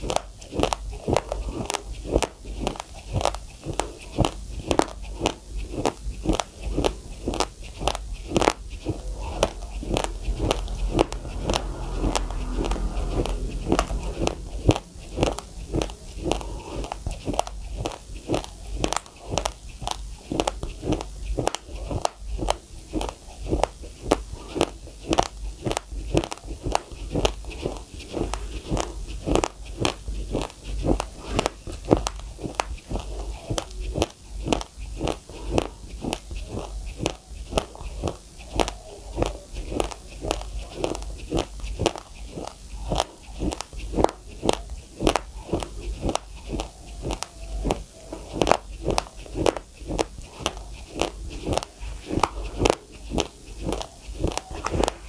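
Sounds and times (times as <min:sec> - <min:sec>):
chewing crunchy rice: 0:00.0 - 0:55.0.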